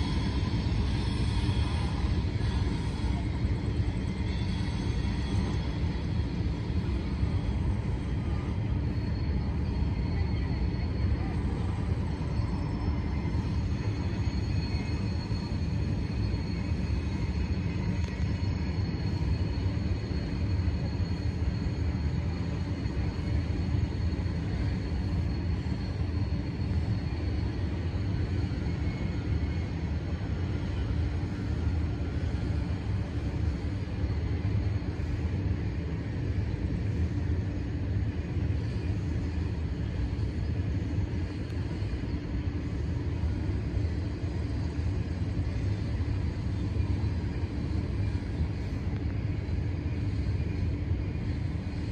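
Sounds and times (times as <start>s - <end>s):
faint high whine: 0.0s - 51.9s
freight train rumbling: 0.0s - 51.9s.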